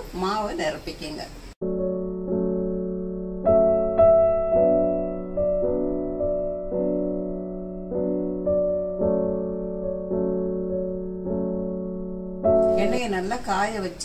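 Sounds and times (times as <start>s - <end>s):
gentle piano music: 1.6s - 14.0s.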